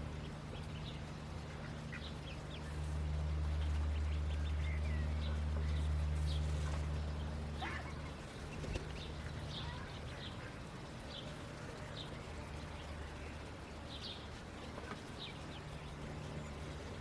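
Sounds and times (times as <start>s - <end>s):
ducklings peeping: 0.0s - 17.0s
steady low hum: 0.0s - 17.0s.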